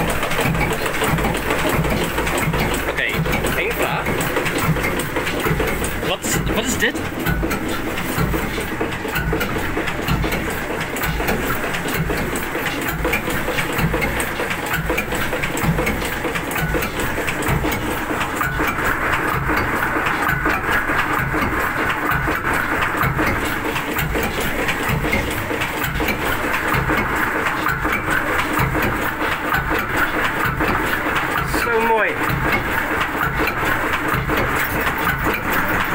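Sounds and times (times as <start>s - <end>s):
slow diesel engine beat: 0.0s - 35.9s
valve gear clicking: 0.0s - 35.9s.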